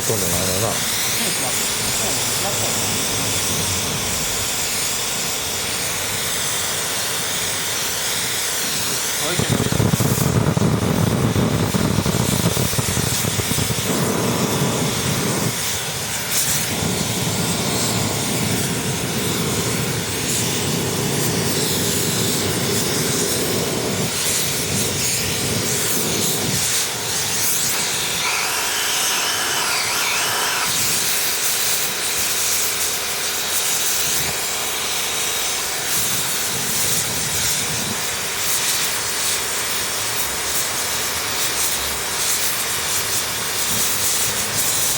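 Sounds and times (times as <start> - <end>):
rushing hiss of air and flame: 0.0 - 44.9.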